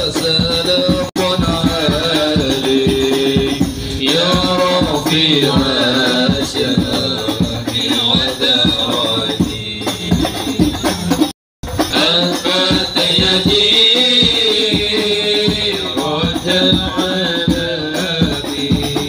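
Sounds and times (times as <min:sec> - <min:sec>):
men singing a chant: 0:00.0 - 0:11.0, 0:11.8 - 0:19.0
hand percussion with jingles: 0:00.0 - 0:19.0.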